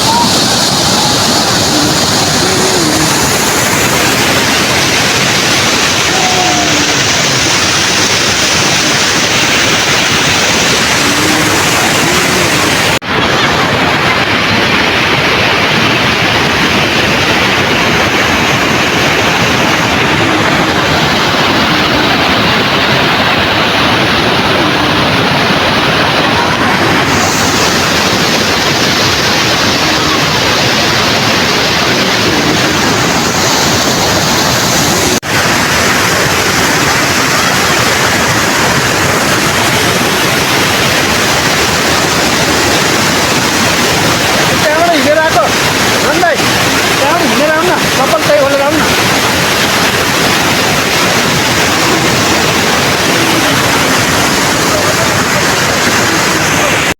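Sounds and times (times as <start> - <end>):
fast-flowing river rushing: 0.0 - 56.9.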